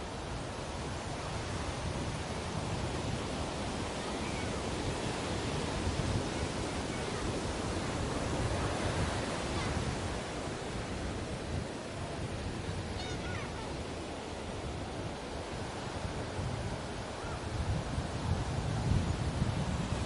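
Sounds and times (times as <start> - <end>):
ocean surf washing on beach: 0.0 - 20.0.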